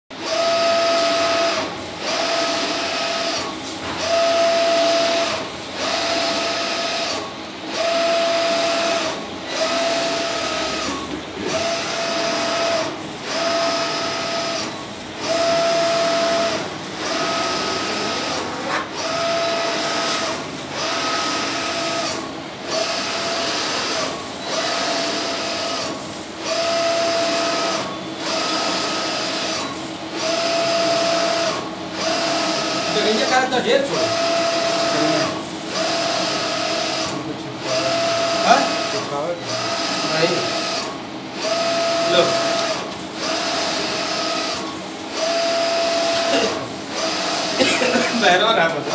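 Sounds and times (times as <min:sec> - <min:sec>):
printer carriage whining: 0:00.1 - 0:48.9.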